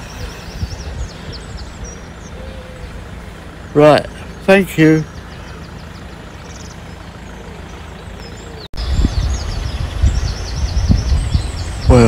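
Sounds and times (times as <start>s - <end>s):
low rumble: 0.0s - 12.0s
small birds chirping: 0.0s - 12.0s.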